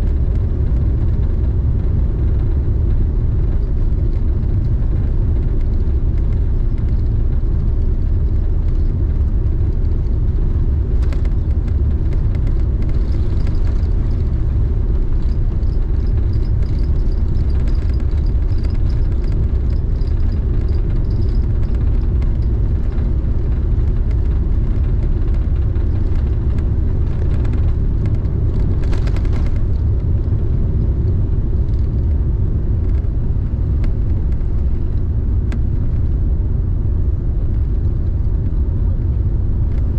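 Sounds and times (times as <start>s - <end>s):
aircraft engines in cabin: 0.0s - 39.9s.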